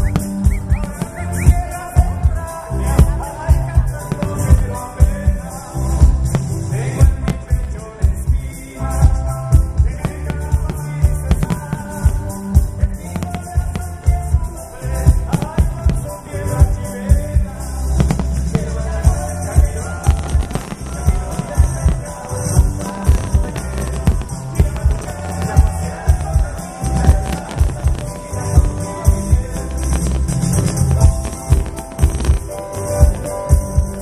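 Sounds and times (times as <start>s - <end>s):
music with singing and heavy beat: 0.0s - 34.0s.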